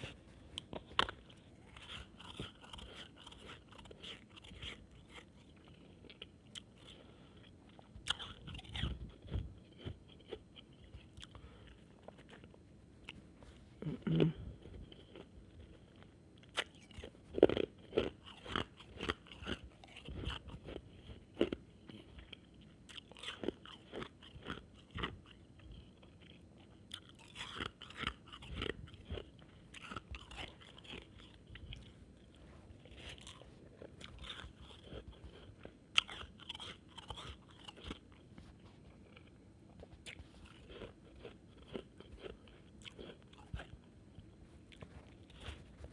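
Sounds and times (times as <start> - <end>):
chewing crunchy ice: 0.0 - 13.2, 13.8 - 45.9.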